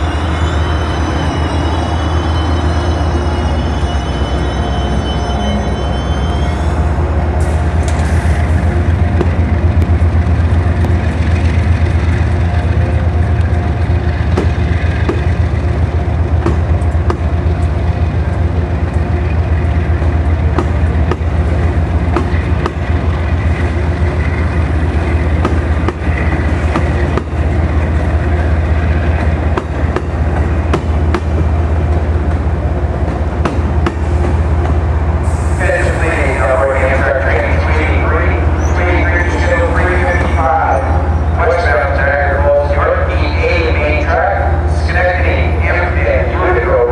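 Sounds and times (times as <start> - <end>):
diesel locomotive drone: 0.0 - 46.9
rail clicks: 7.2 - 46.9.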